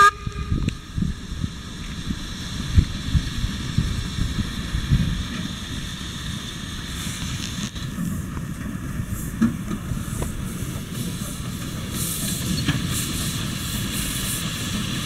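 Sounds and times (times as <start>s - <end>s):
steam hissing from cylinders: 0.0s - 15.0s
steam locomotive rumbling past: 0.0s - 15.0s.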